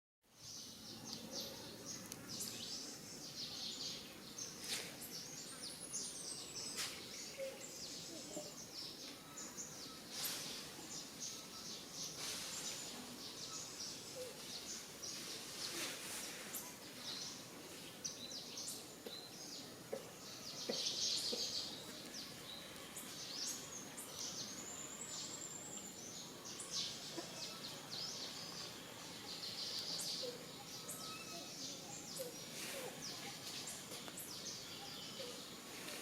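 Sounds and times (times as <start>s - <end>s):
outdoor background hiss: 0.3s - 36.0s.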